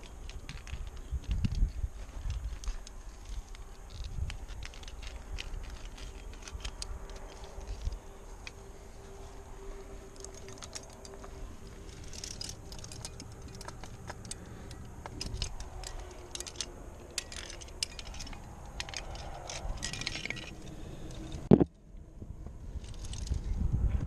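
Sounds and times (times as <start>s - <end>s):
metal climbing gear clinking: 0.0s - 23.6s.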